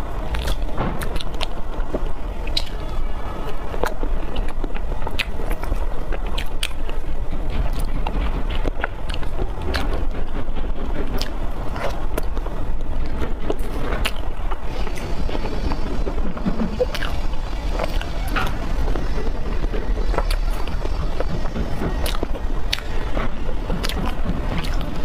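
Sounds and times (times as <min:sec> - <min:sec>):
steady low hum: 0:00.0 - 0:25.0
wet chewing with mouth clicks: 0:00.3 - 0:25.0.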